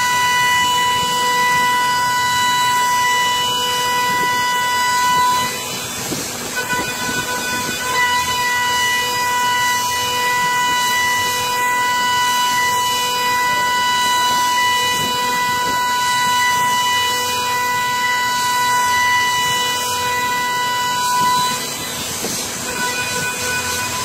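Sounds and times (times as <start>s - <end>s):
hiss of metal cutting: 0.0s - 24.0s.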